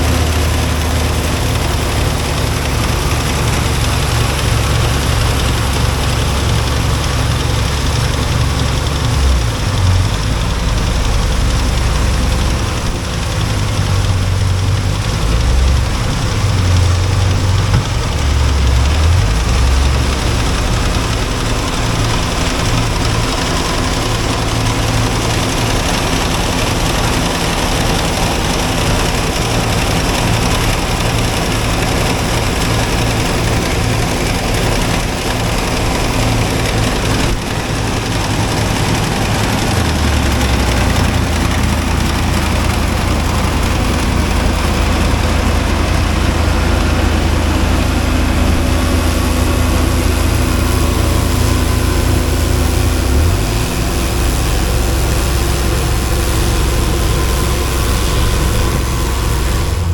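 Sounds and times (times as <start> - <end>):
farm machinery engine running: 0.0 - 59.9.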